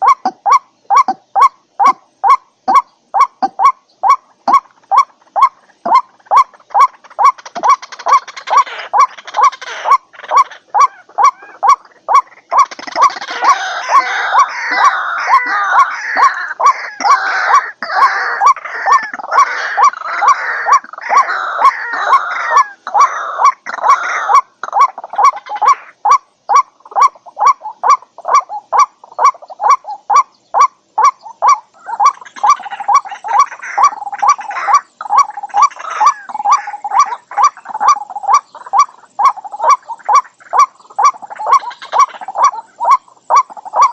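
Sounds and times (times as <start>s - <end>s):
harsh overlapping bird calls: 0.0s - 43.9s
waterhen kwak calls: 0.0s - 43.9s.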